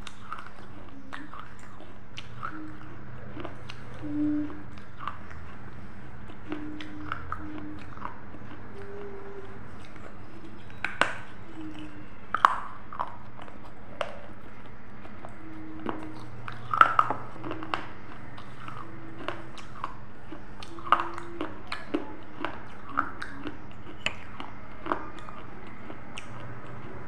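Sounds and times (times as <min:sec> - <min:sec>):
crunchy chewing of food: 0:00.0 - 0:27.0
wet mouth clicks: 0:00.0 - 0:27.0.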